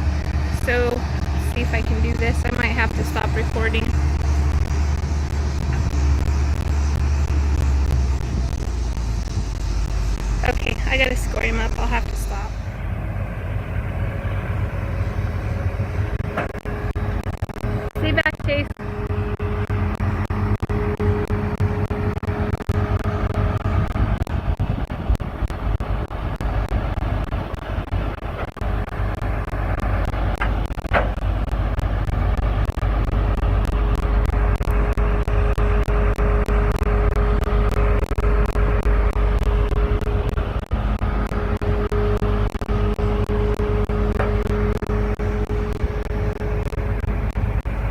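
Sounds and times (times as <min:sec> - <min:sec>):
diesel engine running with whine: 0:00.0 - 0:47.9.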